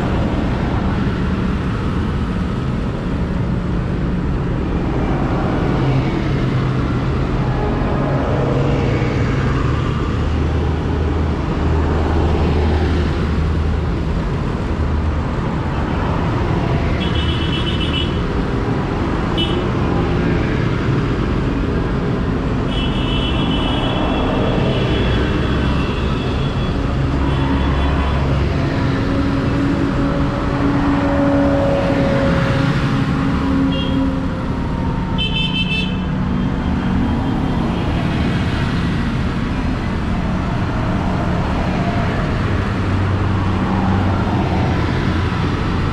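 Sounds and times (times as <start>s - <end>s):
tractor diesel engines rumbling: 0.0s - 45.9s.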